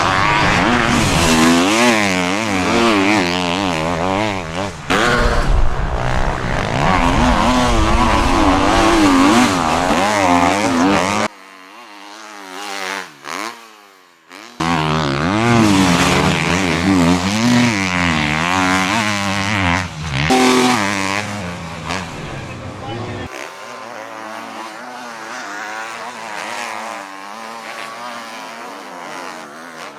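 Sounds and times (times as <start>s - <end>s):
motocross bike engine revving: 0.0s - 29.9s.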